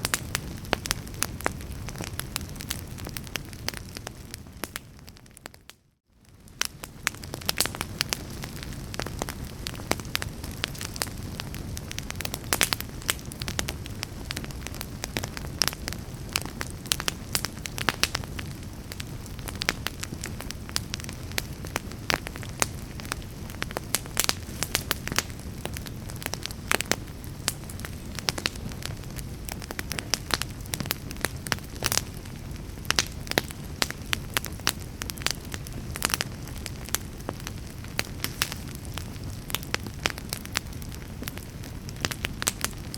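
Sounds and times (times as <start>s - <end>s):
fire crackling and popping: 0.0s - 42.9s
low rumble of fire: 0.0s - 42.9s.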